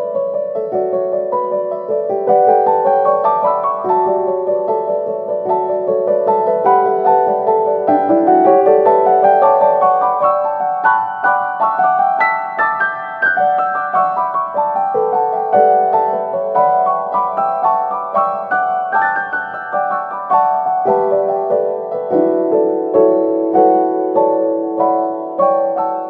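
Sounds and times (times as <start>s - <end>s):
calm piano melody: 0.0s - 26.0s.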